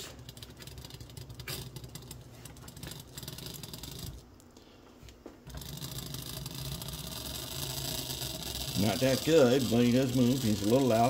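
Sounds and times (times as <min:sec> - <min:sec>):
small electric motor humming: 0:00.0 - 0:04.2, 0:05.5 - 0:11.0.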